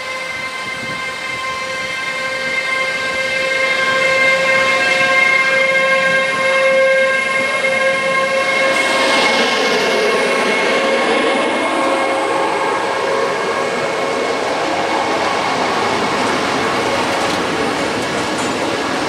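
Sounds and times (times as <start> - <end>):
electric locomotive whine: 0.0 - 19.0
train wheels on rail: 0.0 - 19.0.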